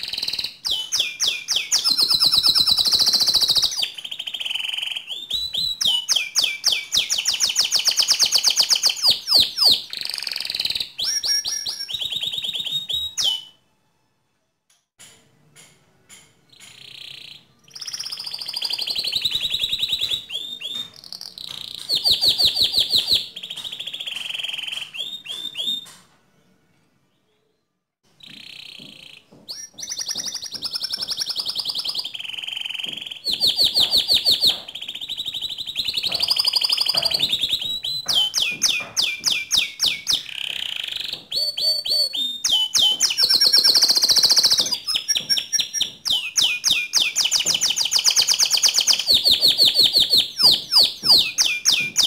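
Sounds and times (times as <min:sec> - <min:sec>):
canary trilling song: 0:00.0 - 0:13.6, 0:16.2 - 0:26.1, 0:28.0 - 0:52.0.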